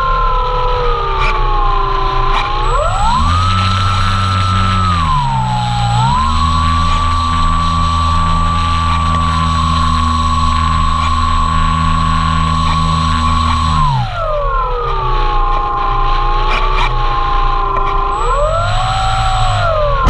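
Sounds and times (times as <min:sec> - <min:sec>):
model plane motor whining: 0:00.0 - 0:20.0.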